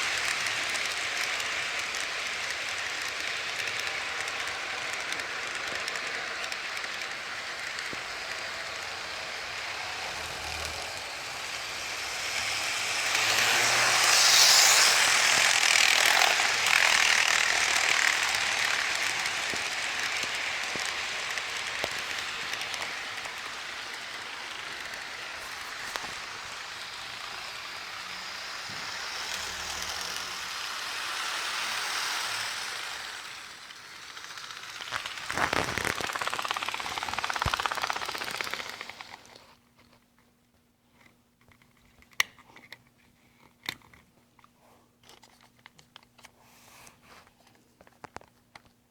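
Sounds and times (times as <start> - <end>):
model train whirring and rattling: 0.0 - 39.7.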